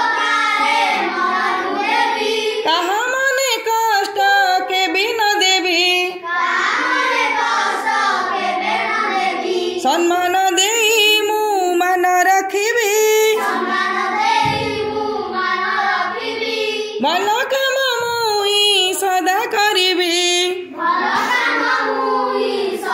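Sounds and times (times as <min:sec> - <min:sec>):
children singing: 0:00.0 - 0:04.7, 0:06.2 - 0:11.4, 0:13.1 - 0:19.6, 0:20.5 - 0:22.9.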